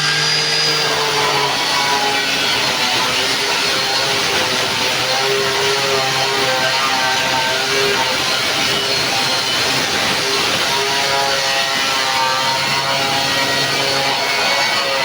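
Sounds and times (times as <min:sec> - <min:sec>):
power tool whirring: 0:00.0 - 0:15.0.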